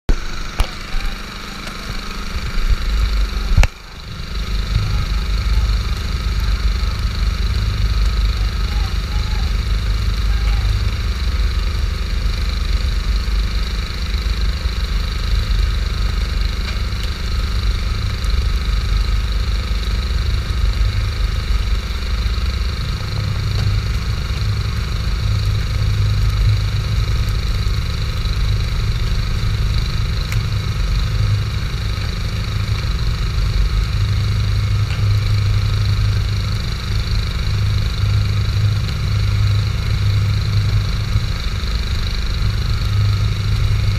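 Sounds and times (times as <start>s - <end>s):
boat engine rumbling: 0.1s - 43.9s
constant hiss: 0.1s - 43.9s.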